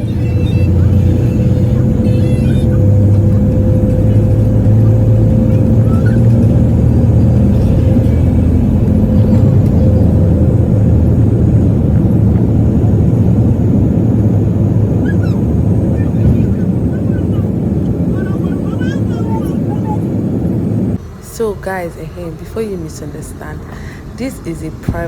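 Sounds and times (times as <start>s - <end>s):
held hum: 0.0s - 25.0s
low engine rumble: 0.0s - 25.0s.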